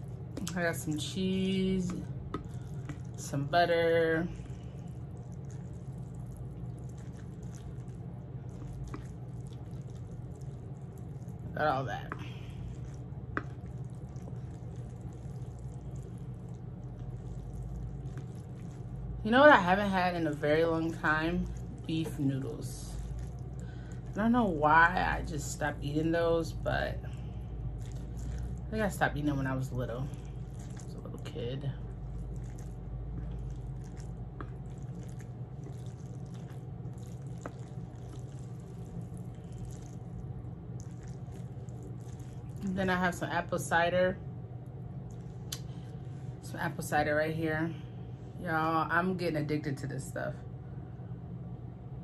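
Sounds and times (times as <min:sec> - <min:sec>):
noodles squelching: 0:00.0 - 0:43.4, 0:45.0 - 0:46.4
steady low hum: 0:00.0 - 0:52.0.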